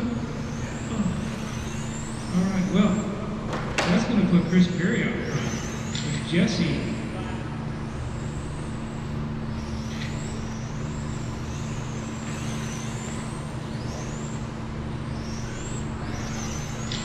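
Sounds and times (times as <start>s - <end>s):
electric toy car motors whining: 0.0s - 17.0s
steady low hum: 0.0s - 17.0s.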